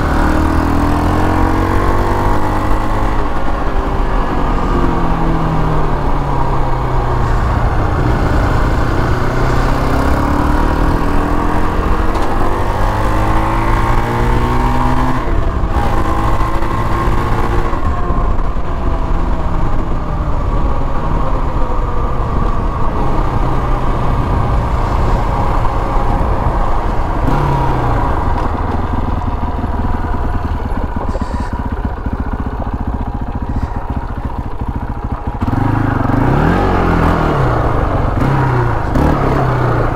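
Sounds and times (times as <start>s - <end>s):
quad engine accelerating: 0.0s - 39.9s.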